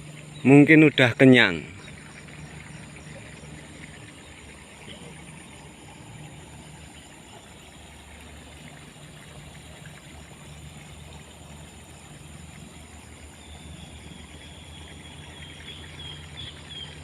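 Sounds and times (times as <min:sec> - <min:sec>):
low even hum: 0:00.0 - 0:17.0
trickling water hiss: 0:00.0 - 0:17.0.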